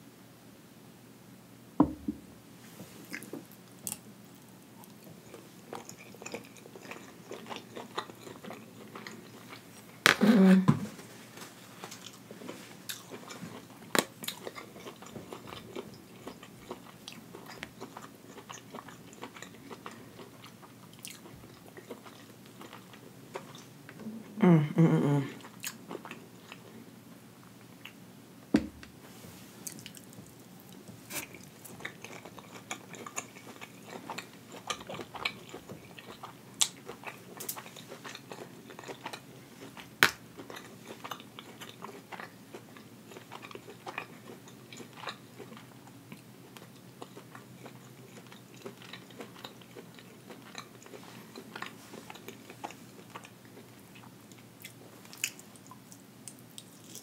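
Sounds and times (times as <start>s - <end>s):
wet chewing sounds: 3.0s - 10.0s, 11.7s - 23.7s, 29.6s - 57.0s.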